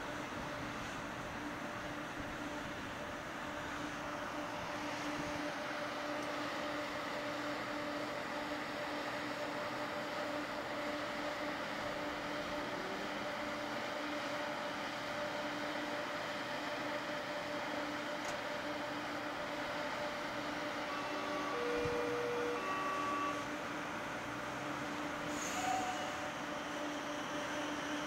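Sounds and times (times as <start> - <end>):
train equipment humming: 0.0 - 28.0.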